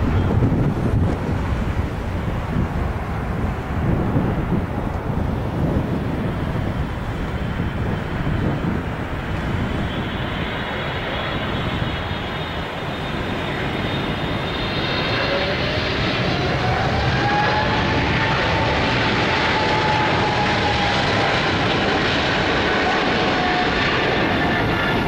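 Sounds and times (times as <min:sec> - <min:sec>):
jet engines rumbling: 0:00.0 - 0:25.0
rising engine whine: 0:00.0 - 0:25.0.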